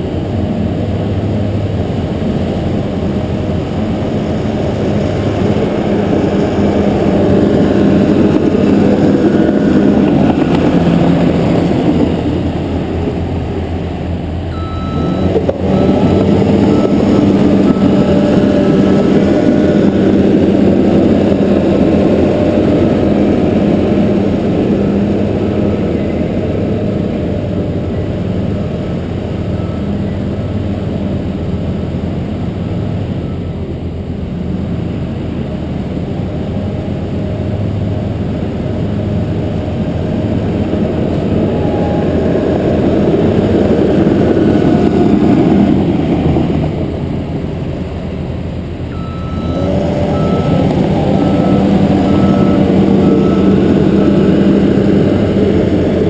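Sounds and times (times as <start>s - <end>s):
dozer diesel engine running: 0.0s - 56.0s.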